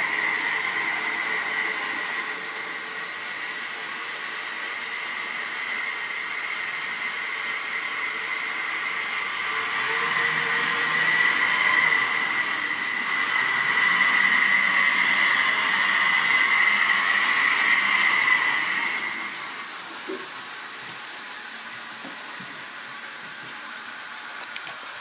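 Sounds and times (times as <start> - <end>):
model trains high whine: 0.0 - 25.0.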